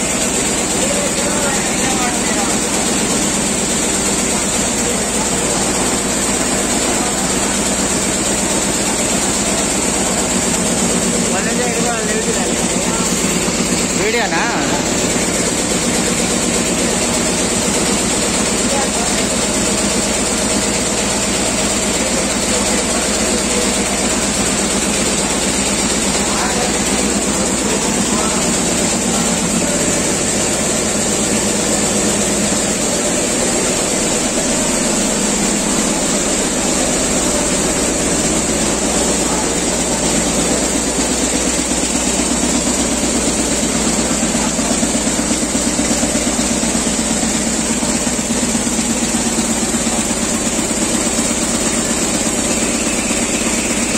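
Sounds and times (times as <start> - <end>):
quilting machines clattering: 0.0 - 53.9.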